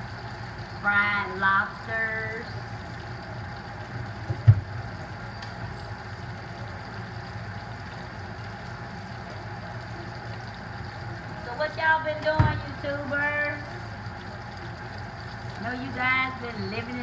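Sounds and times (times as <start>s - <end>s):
deep fryer rumble and hiss: 0.0s - 17.0s.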